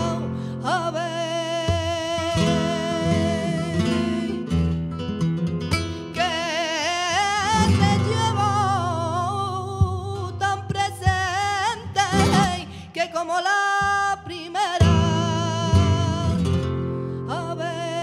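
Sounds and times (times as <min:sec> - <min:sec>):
flamenco guitar: 0:00.0 - 0:18.0
woman singing flamenco: 0:00.0 - 0:18.0.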